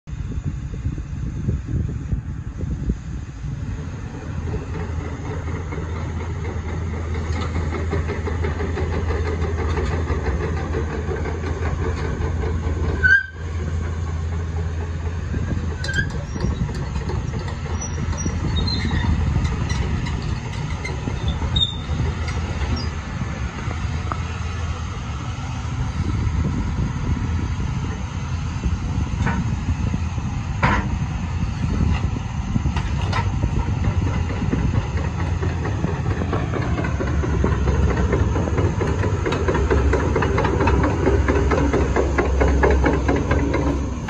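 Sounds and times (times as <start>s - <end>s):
excavator diesel engine humming: 0.1s - 44.0s.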